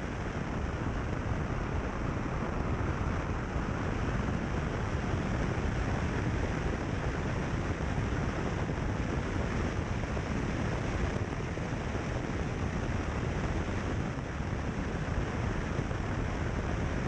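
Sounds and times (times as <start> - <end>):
wind rushing on microphone: 0.0 - 17.0.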